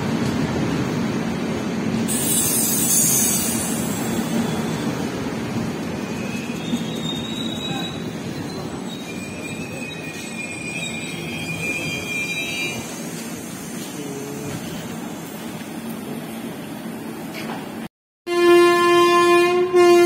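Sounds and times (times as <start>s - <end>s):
train coaches rumbling: 0.0s - 17.9s.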